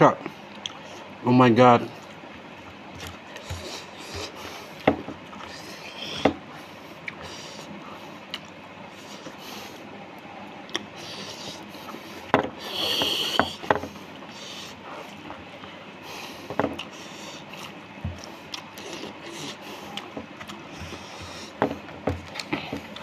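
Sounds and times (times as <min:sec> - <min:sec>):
chewing rice: 0:01.9 - 0:23.0.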